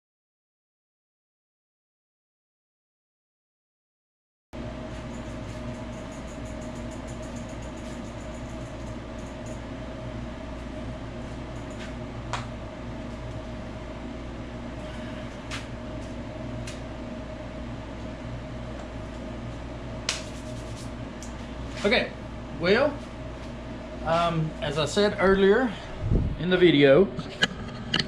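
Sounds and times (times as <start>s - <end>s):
low room hum: 4.6s - 28.0s.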